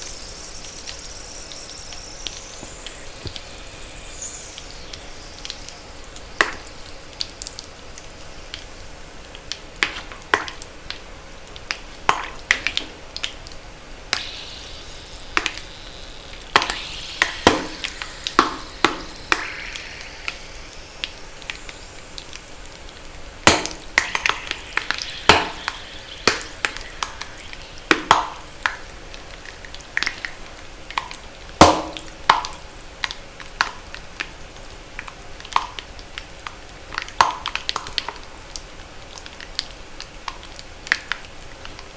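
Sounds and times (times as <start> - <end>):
faint hiss: 0.0 - 41.9.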